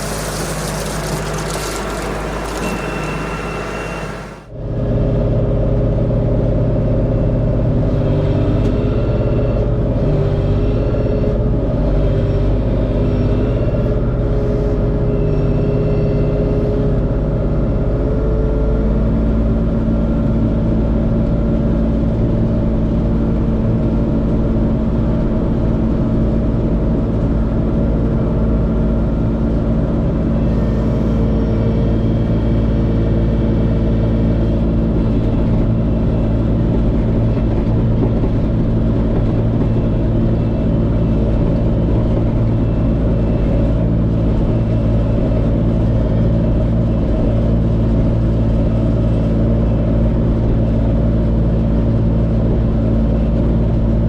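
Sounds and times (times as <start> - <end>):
tractor diesel engine running: 0.0 - 4.6, 7.3 - 54.0.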